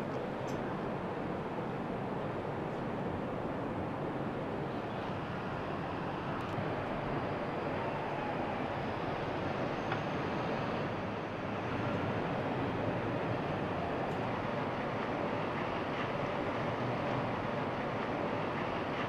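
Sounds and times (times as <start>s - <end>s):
steady rushing outdoor noise: 0.0s - 19.0s.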